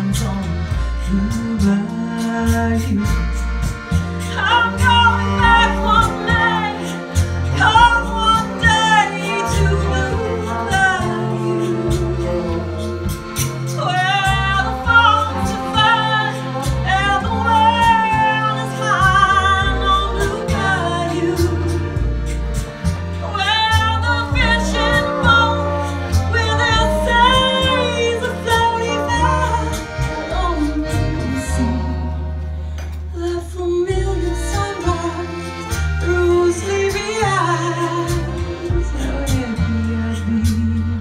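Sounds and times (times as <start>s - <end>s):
accordion: 0.0s - 41.0s
trombone and saxophone: 0.0s - 41.0s
upright bass: 0.0s - 41.0s
woman singing with vibrato: 4.3s - 22.1s, 23.2s - 32.3s, 33.1s - 41.0s.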